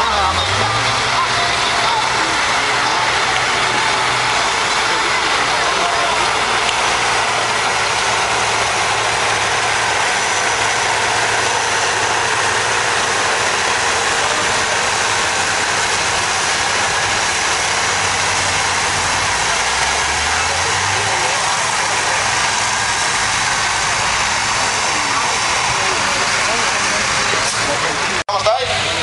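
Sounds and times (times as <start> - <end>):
tractor diesel engine working hard: 0.0 - 29.0.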